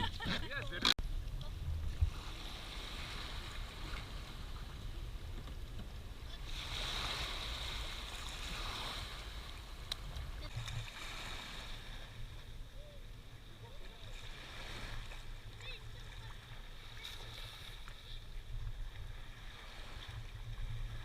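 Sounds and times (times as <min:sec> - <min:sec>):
water rushing around kayak: 0:00.0 - 0:21.0.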